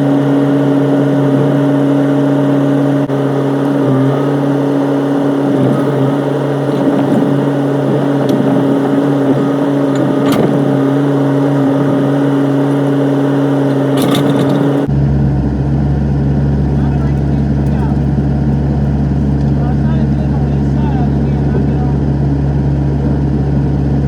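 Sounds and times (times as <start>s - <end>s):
excavator engine running: 0.0s - 24.0s.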